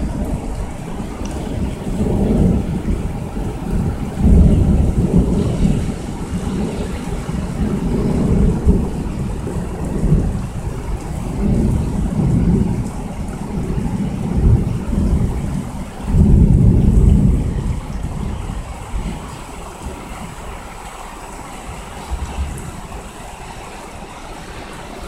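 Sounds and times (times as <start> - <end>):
heavy rain: 0.0 - 25.0
thunder rumbling: 0.0 - 25.0.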